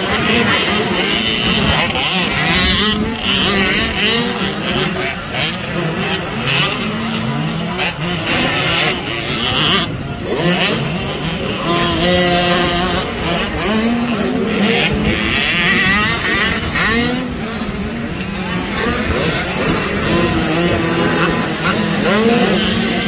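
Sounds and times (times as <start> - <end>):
dirt bikes revving: 0.0 - 23.0.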